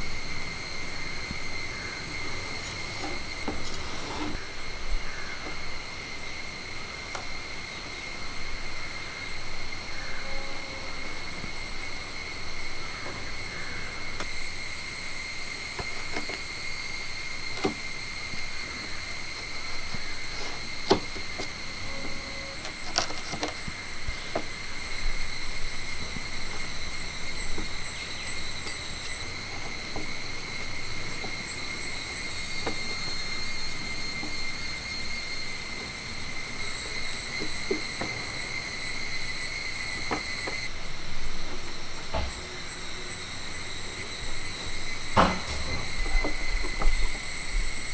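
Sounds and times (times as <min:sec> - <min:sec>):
high-pitched insect drone: 0:00.0 - 0:47.9.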